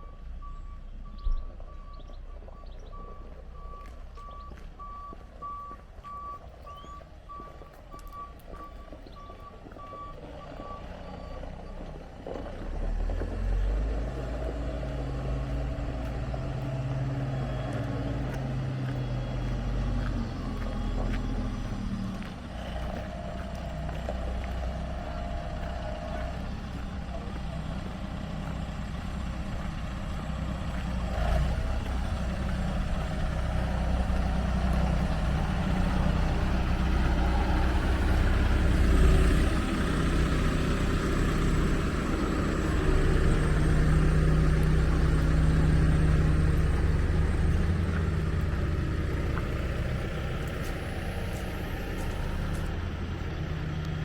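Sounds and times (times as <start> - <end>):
vehicle reversing alarm beeps: 0.0 - 52.6
heavy vehicle engine running: 0.0 - 54.0.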